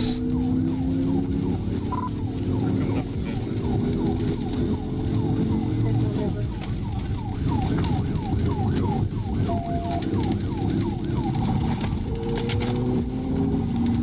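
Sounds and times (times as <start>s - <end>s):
car engine and road noise: 0.0s - 14.0s
police siren sweeping: 0.0s - 14.0s.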